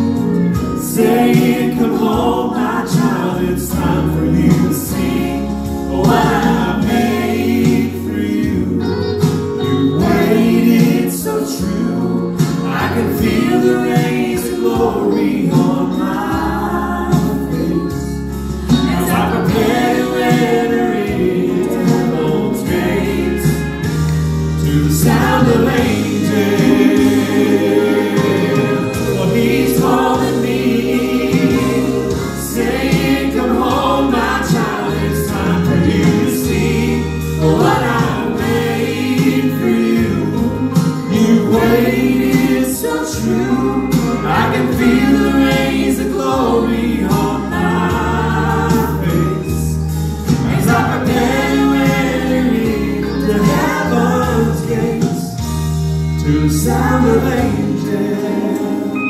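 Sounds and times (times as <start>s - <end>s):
long held bass notes: 0.0s - 59.0s
trio singing in harmony: 0.0s - 59.0s.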